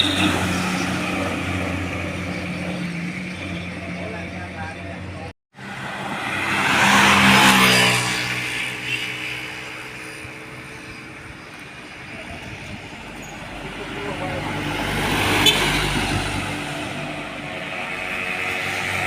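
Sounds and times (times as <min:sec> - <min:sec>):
heavy truck passing: 0:00.0 - 0:11.4, 0:12.2 - 0:19.0.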